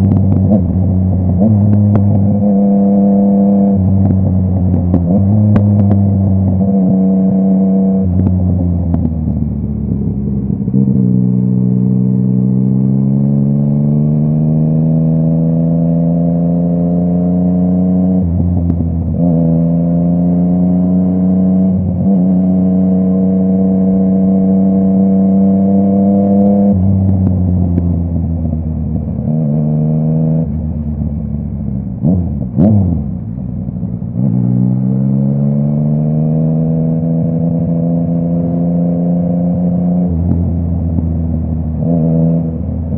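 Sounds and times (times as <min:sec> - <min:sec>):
motorcycle engine revving through gears: 0:00.0 - 0:42.9.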